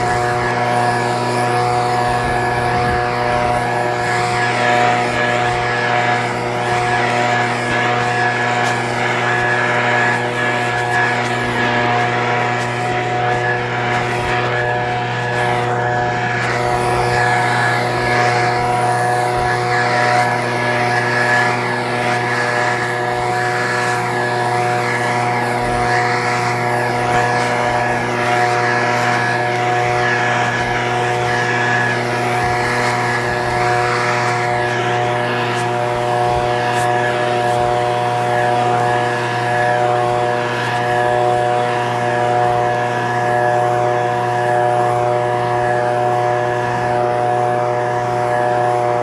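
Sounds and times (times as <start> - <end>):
leaf blower engine running: 0.0 - 49.0.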